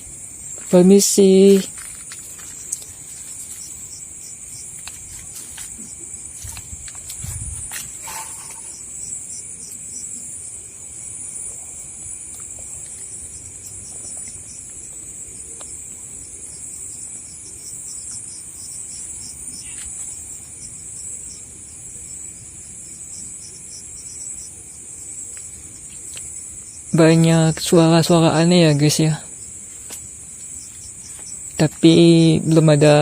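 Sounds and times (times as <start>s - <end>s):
high-pitched insect trill: 0.0s - 33.0s.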